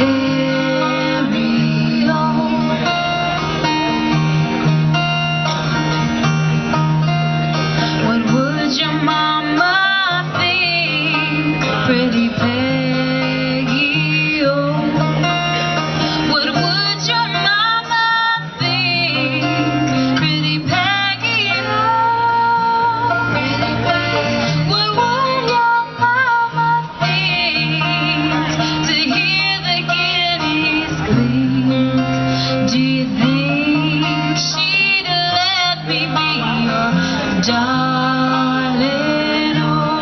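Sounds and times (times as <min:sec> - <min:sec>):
woman singing: 0:00.0 - 0:03.4, 0:07.9 - 0:40.0
bluegrass band playing: 0:00.0 - 0:40.0.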